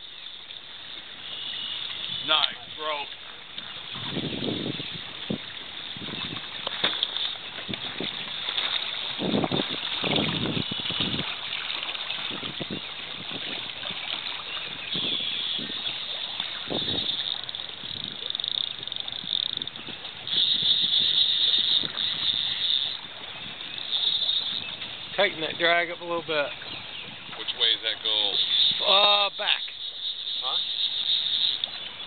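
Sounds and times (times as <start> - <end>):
river water rushing around boat: 0.0 - 32.0
wind buffeting microphone: 3.6 - 29.6.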